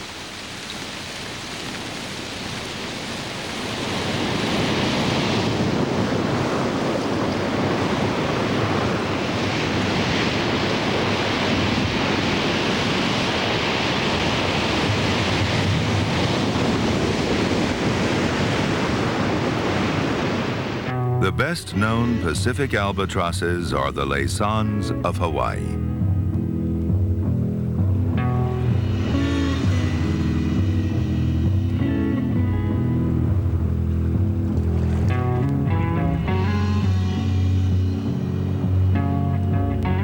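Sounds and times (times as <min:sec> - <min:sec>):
wind: 0:00.0 - 0:40.0
surf: 0:01.3 - 0:40.0.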